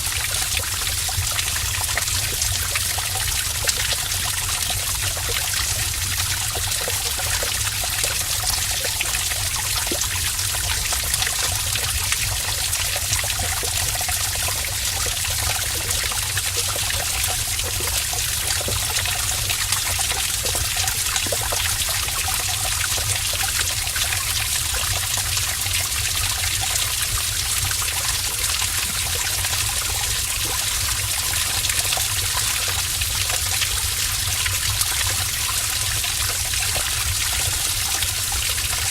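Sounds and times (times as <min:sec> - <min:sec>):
water pouring and splashing: 0:00.0 - 0:38.9.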